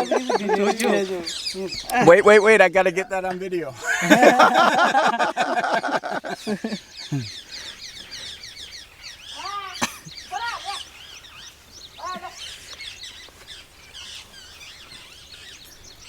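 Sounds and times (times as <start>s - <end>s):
low arching bird calls: 0.0s - 16.0s
small birds chirping: 0.0s - 16.0s.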